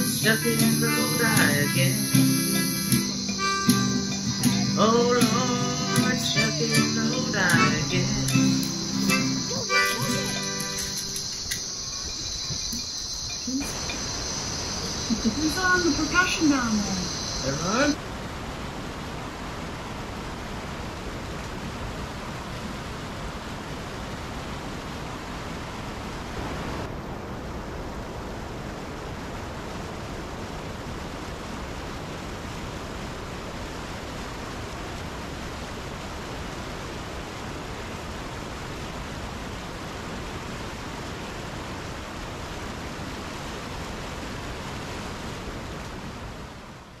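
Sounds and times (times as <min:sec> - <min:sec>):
whitewater rushing: 0:00.0 - 0:47.0.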